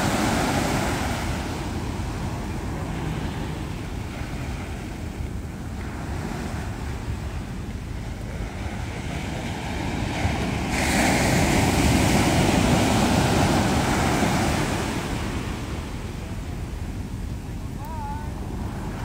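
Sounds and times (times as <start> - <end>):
ocean waves breaking on beach: 0.0 - 19.0
wind rumble on microphone: 0.0 - 19.0.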